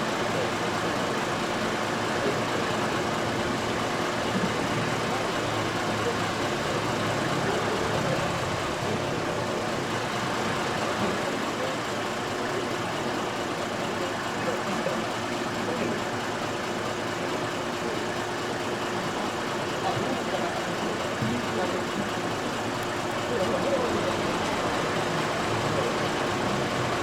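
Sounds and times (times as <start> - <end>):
people's voices: 0.0 - 27.0
vehicle engine idling: 0.0 - 27.0.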